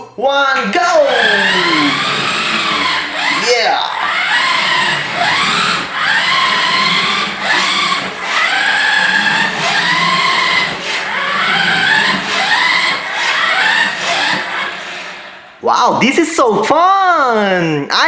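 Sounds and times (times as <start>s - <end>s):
electric motor whining: 0.8s - 15.9s.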